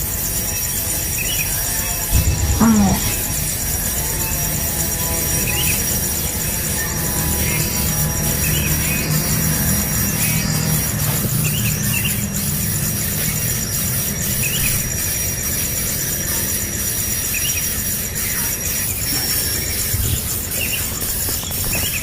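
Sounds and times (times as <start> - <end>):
high-pitched insect trill: 0.0 - 22.0.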